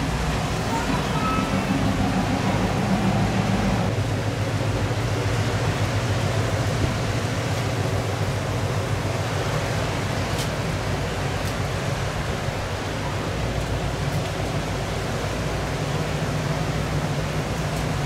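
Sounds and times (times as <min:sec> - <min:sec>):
car engines running at low speed: 0:00.0 - 0:18.0
rain hissing: 0:00.0 - 0:18.0.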